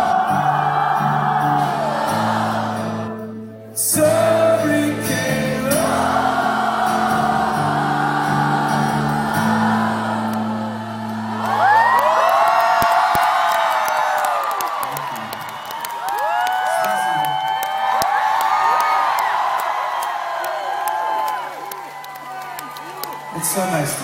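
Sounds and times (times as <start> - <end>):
crowd whooping and cheering: 0.0 - 3.2, 5.7 - 24.0.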